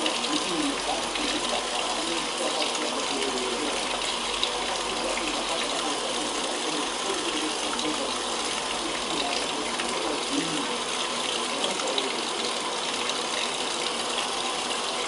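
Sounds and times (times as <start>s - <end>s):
water gushing into washing machine: 0.0s - 15.0s.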